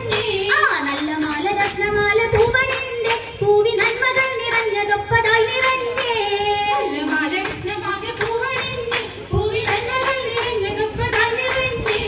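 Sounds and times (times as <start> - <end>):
rhythmic hand claps: 0.0 - 12.0
women singing: 0.0 - 12.0.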